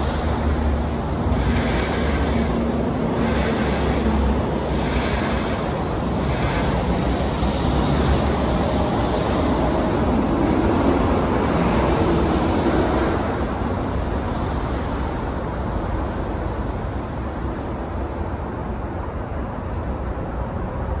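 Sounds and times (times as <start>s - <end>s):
urban traffic rumble: 0.0s - 21.0s.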